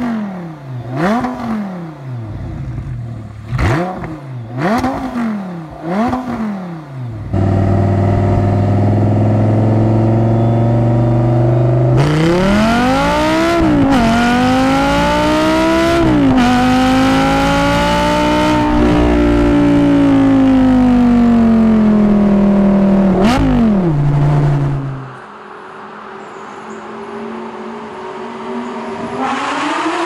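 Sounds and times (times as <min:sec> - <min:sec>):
sports car engine revving: 0:00.0 - 0:25.2.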